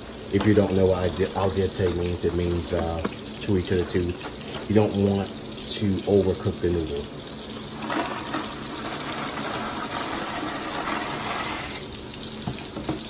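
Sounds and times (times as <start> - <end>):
kitchen faucet running: 0.0 - 13.0.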